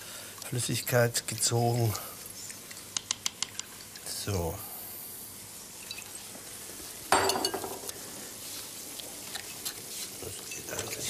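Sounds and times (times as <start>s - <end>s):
food sizzling: 1.4s - 11.0s.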